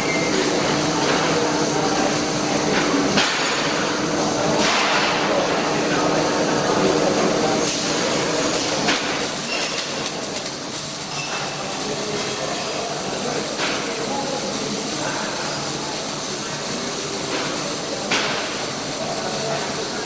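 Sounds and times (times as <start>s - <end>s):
welding arc crackling and hissing: 0.0s - 20.0s.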